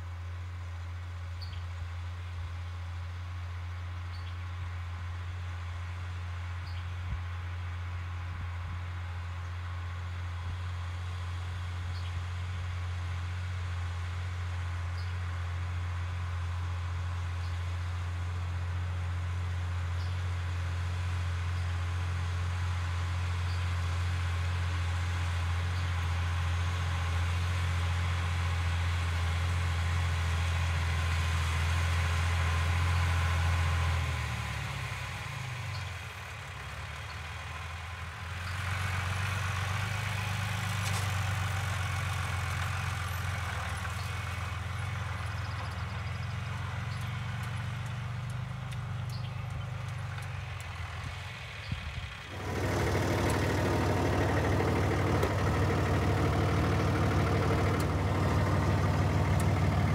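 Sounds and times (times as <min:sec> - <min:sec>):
another engine: 0:00.0 - 0:59.9
tractor diesel engine running: 0:00.0 - 0:59.9.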